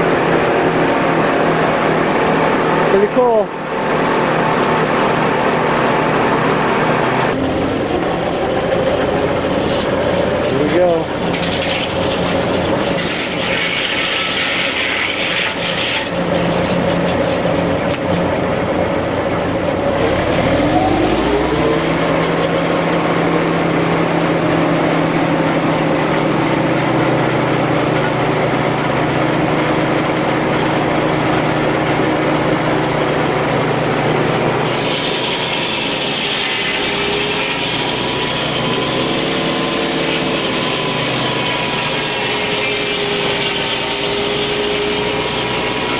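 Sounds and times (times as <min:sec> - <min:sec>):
saw blade cutting log: 0:00.0 - 0:18.3, 0:19.4 - 0:45.9
tractor engine and saw humming: 0:00.0 - 0:45.9.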